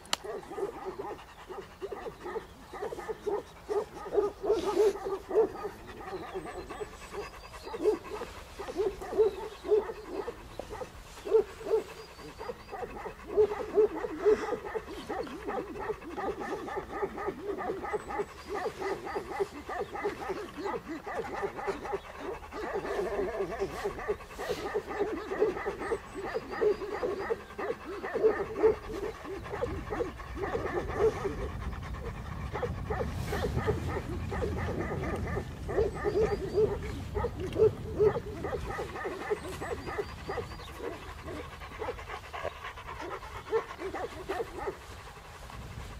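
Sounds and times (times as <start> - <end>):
dogs barking and yelping: 0.0 - 45.9.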